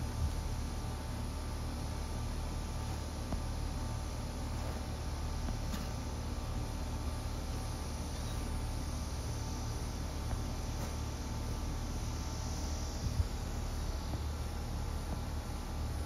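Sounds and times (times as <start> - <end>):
constant low hum: 0.0 - 16.0
insects chirring: 1.7 - 16.0.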